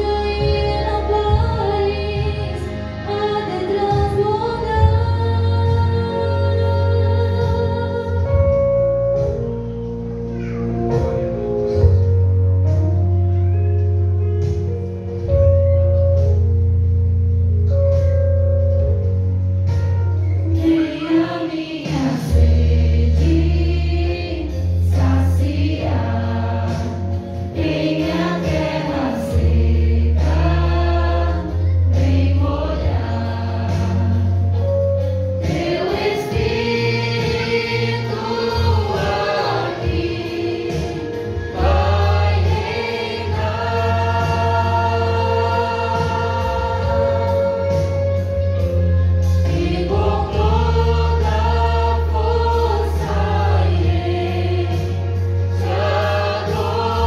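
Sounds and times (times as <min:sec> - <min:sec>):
choir singing a hymn: 0:00.0 - 0:09.4, 0:20.4 - 0:57.0
sustained low bass notes: 0:00.0 - 0:57.0.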